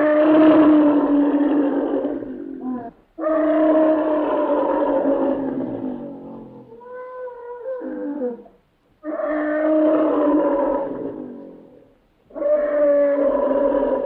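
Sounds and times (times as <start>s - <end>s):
elephant roars: 0.0s - 6.8s, 9.1s - 14.0s.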